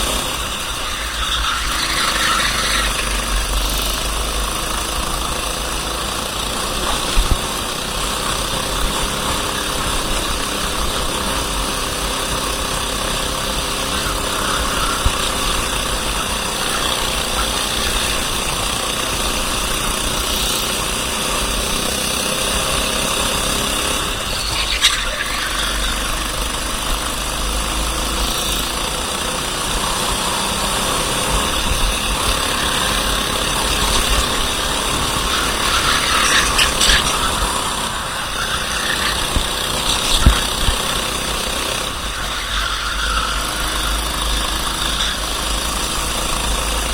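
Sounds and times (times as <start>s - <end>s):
kart engine revving: 0.0s - 46.9s.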